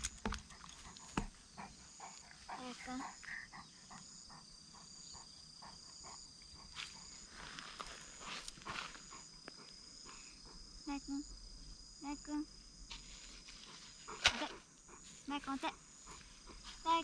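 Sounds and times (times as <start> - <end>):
insects chirping: 0.0 - 17.0
dog panting: 0.2 - 11.0, 13.5 - 17.0.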